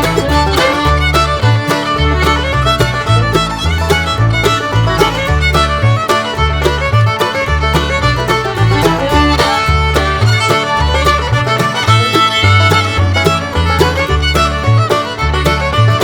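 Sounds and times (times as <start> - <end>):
bass line: 0.0 - 16.0
fiddle music: 0.0 - 16.0
quick steady beat: 0.0 - 16.0.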